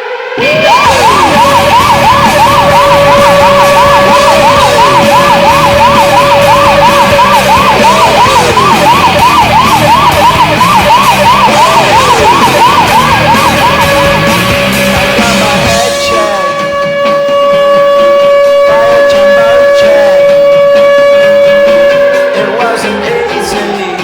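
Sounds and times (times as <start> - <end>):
loud steady goal horn: 0.0 - 23.2
warbling siren: 0.0 - 24.0.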